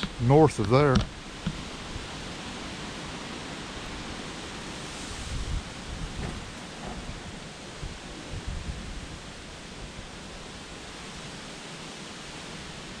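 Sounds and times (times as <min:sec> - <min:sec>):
wind buffeting the microphone: 0:00.0 - 0:10.6.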